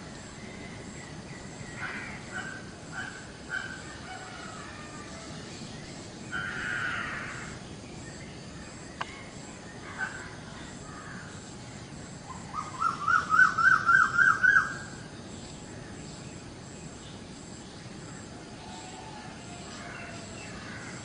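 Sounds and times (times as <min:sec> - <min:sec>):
steady hiss: 0:00.0 - 0:21.0
birds calling: 0:00.4 - 0:21.0.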